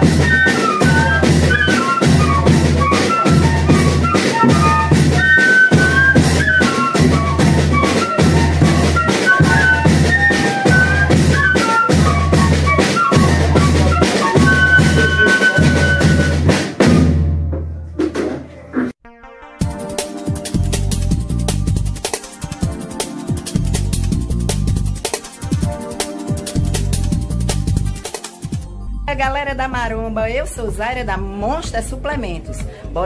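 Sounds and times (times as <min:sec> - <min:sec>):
fifes playing melody: 0:00.0 - 0:16.6, 0:19.0 - 0:33.0
bass drum beat: 0:00.0 - 0:18.9, 0:19.6 - 0:33.0
light percussion: 0:00.0 - 0:18.9, 0:19.6 - 0:33.0.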